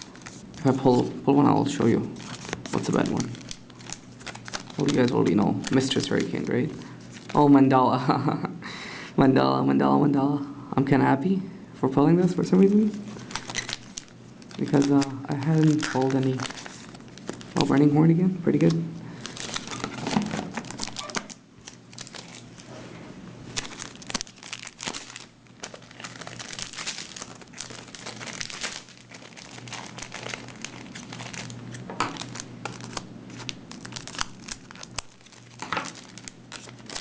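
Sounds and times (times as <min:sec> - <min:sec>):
foil wrappers crinkling and tearing: 0:00.0 - 0:07.5, 0:12.4 - 0:22.7, 0:23.4 - 0:37.0.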